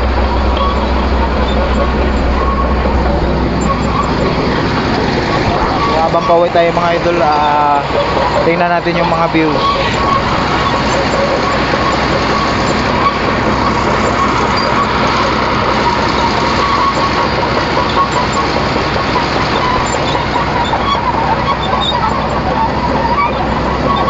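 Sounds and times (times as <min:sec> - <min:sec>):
diesel excavator engine running: 0:00.0 - 0:24.0.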